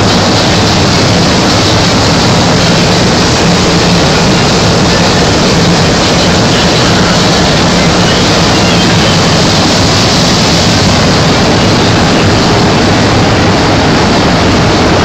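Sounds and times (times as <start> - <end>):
machinery running with low hum: 0.0 - 15.0.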